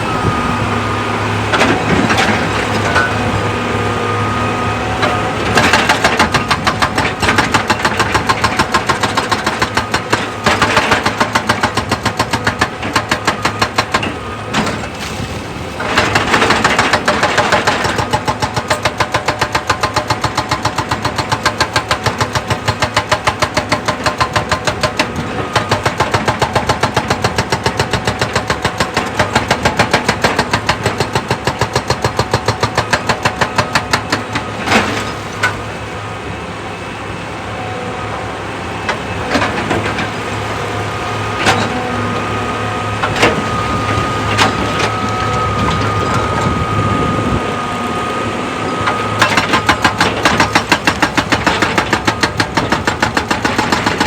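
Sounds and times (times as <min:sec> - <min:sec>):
diesel excavator knocking: 0:00.0 - 0:35.9, 0:38.8 - 0:54.0.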